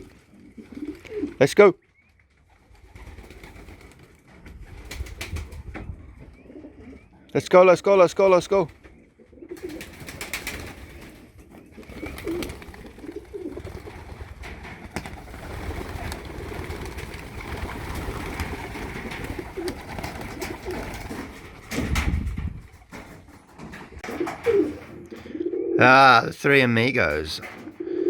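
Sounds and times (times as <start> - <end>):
pigeons cooing: 0.0 - 1.6, 2.5 - 7.3, 8.3 - 26.3, 26.9 - 28.0.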